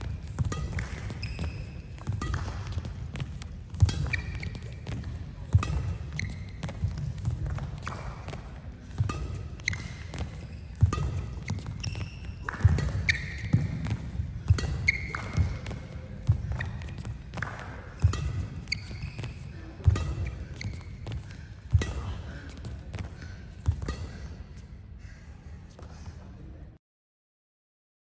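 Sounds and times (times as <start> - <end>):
shoes squeaking on court: 0.0 - 24.7.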